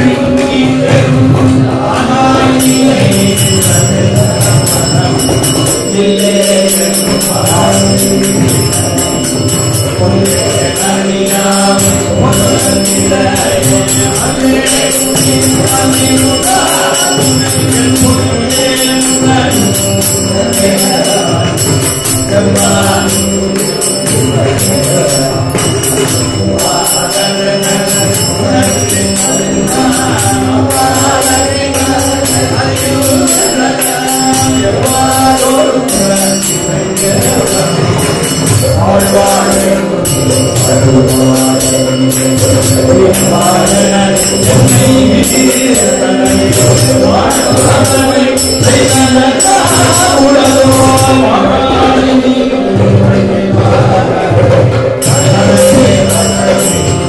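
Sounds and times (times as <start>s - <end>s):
small hand cymbals ringing: 0.0s - 52.2s, 54.5s - 57.0s
hand drums: 0.0s - 57.0s
harmonium: 0.0s - 57.0s
voices chanting a sung melody: 0.0s - 57.0s.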